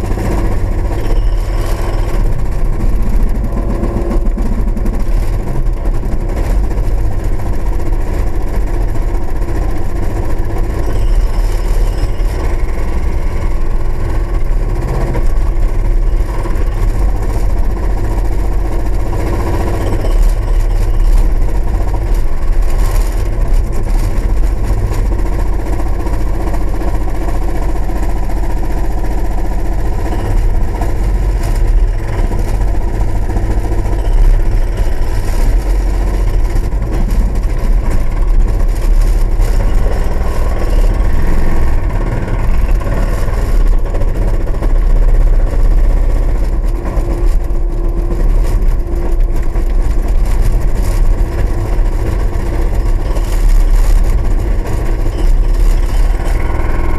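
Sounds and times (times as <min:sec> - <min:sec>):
diesel engine running hard: 0:00.0 - 0:56.9.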